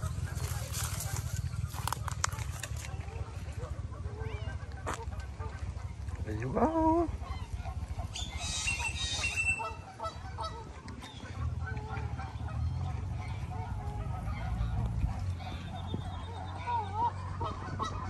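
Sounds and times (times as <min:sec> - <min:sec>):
geese honking: 0:00.0 - 0:18.0
steady low rumble: 0:00.0 - 0:18.0.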